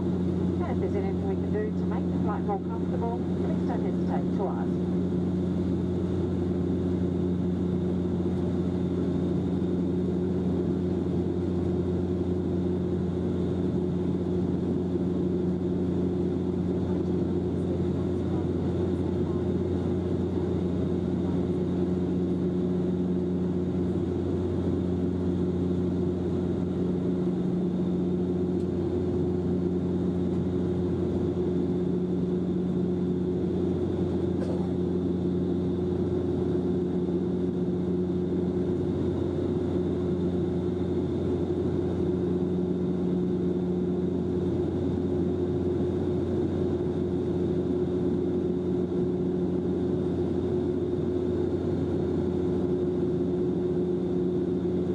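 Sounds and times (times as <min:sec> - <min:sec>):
airliner engines humming: 0:00.0 - 0:54.9.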